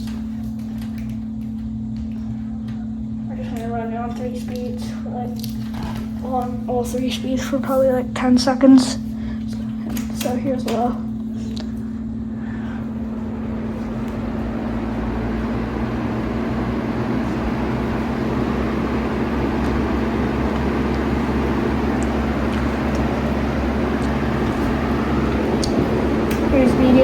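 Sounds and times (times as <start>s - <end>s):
fan motor hum: 0.0s - 27.0s.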